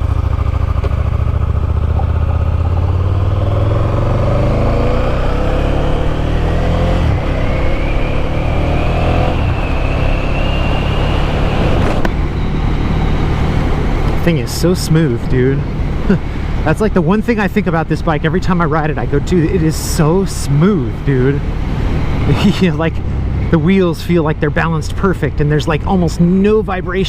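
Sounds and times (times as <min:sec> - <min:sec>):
motorcycle engine accelerating: 0:00.0 - 0:26.7.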